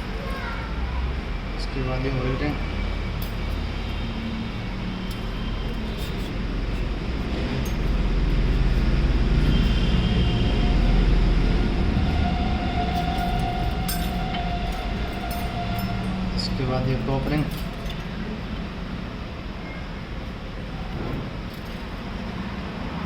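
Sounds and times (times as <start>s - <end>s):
low mechanical rumble: 0.0s - 23.0s.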